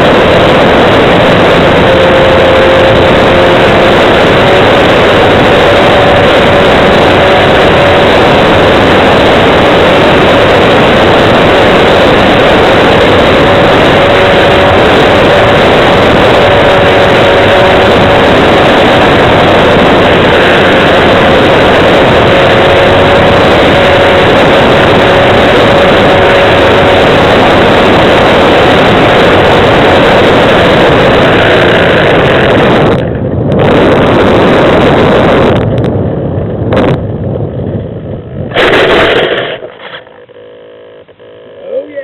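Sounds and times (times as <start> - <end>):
model plane motor and propeller: 0.0 - 34.7, 38.6 - 42.0
rush of noise: 0.0 - 42.0.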